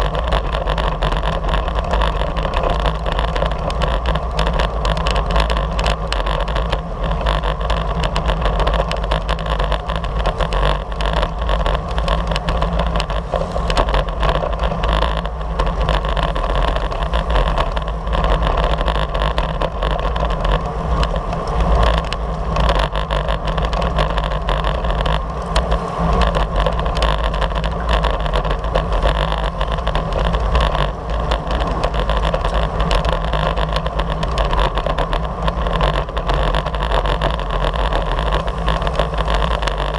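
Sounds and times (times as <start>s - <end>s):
wind and tyre noise: 0.0s - 39.9s
wind buffeting microphone: 0.0s - 39.9s.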